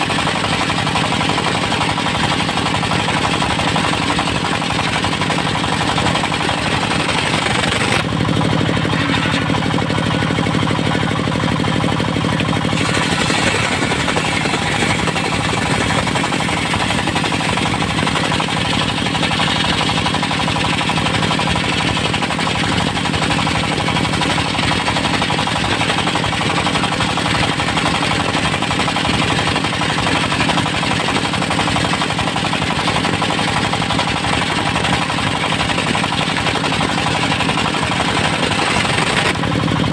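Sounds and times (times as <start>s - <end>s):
circular sawmill engine knocking: 0.0s - 39.9s.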